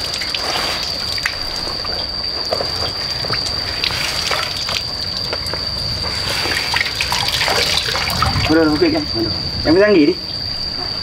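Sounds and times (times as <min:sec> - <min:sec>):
water splashing and trickling: 0:00.0 - 0:09.0
high-pitched whine: 0:00.0 - 0:11.0.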